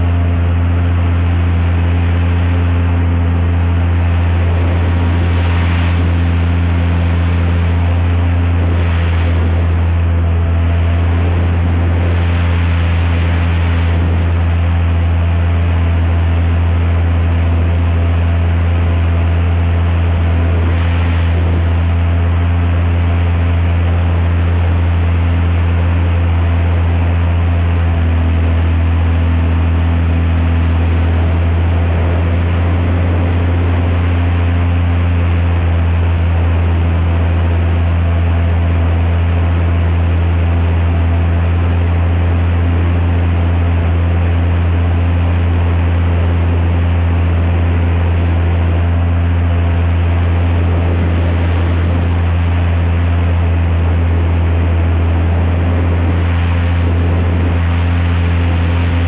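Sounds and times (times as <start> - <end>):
airboat engine and propeller drone: 0.0 - 59.0.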